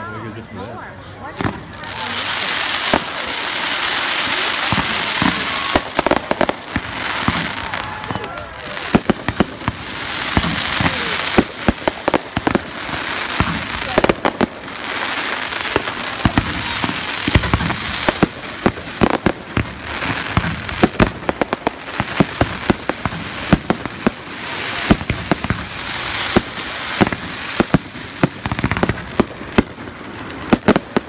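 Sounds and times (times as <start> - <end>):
fireworks crackling: 1.2 - 31.0
fireworks bangs: 1.3 - 31.0.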